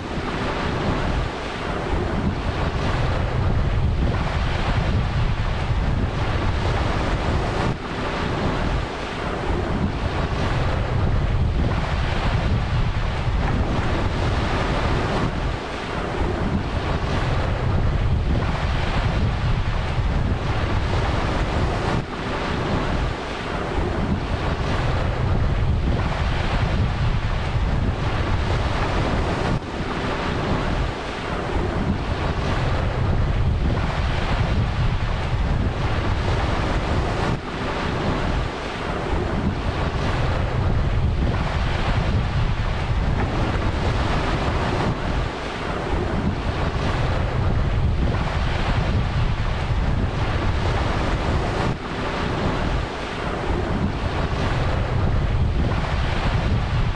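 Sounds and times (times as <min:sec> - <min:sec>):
ocean surf breaking: 0:00.0 - 0:56.9
wind rumbling on microphone: 0:00.0 - 0:56.9.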